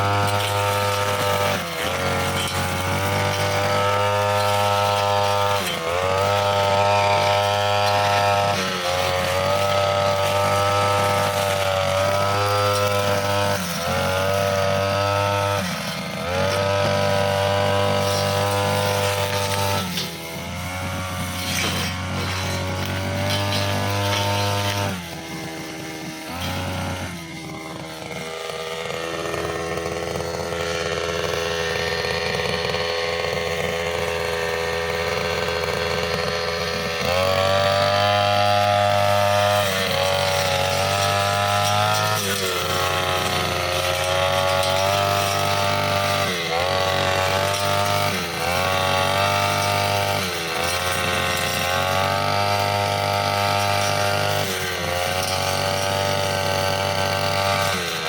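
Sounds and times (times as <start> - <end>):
blade cutting grass and stems: 0.0 - 58.0
brushcutter engine at high revs: 0.0 - 58.0.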